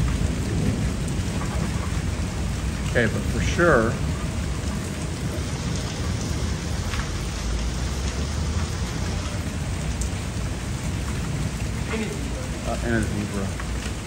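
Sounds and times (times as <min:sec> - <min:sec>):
heavy rain: 0:00.0 - 0:14.0
low thunder rumble: 0:00.0 - 0:14.0.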